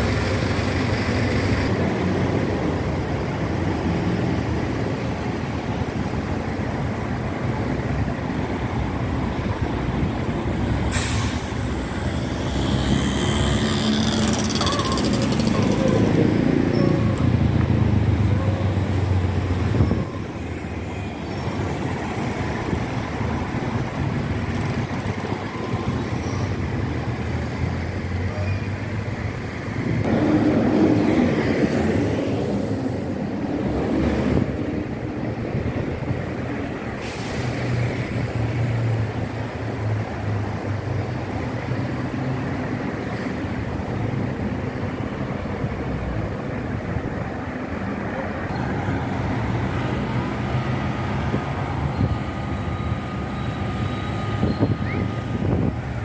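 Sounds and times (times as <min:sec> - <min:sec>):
bus engine running: 0:00.0 - 0:56.0
buses and cars driving past: 0:00.0 - 0:56.0.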